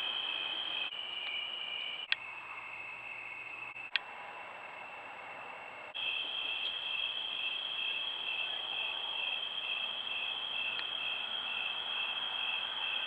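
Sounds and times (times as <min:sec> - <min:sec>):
crickets high continuous trill: 0:00.0 - 0:13.0
lower pulsing cricket trill: 0:00.0 - 0:13.0.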